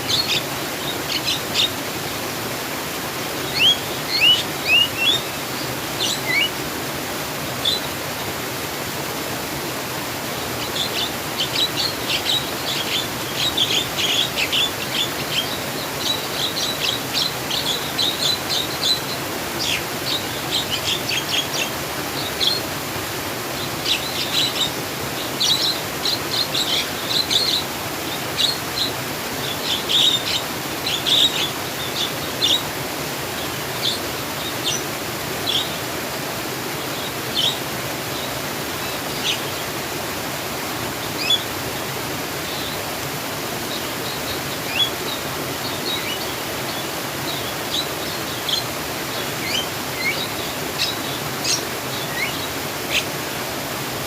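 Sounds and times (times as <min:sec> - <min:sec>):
small birds chirping: 0:00.0 - 0:02.2, 0:02.9 - 0:06.7, 0:07.6 - 0:08.0, 0:10.2 - 0:39.9, 0:40.6 - 0:53.8
flowing water rushing: 0:00.0 - 0:54.0.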